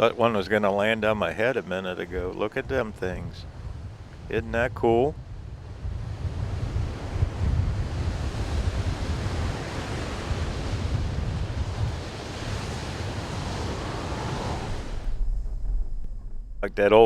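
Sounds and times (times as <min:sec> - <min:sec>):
ocean surf washing: 0:00.0 - 0:17.0
wind gusting on microphone: 0:00.0 - 0:17.0.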